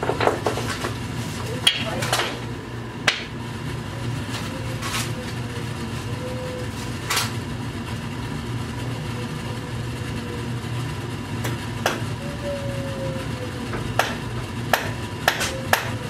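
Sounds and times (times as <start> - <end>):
dehumidifier humming: 0.0 - 16.0.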